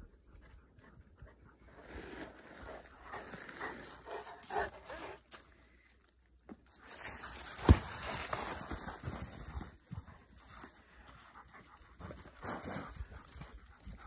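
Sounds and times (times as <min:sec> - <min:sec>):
dogs breathing and scuffling: 0:00.1 - 0:14.0.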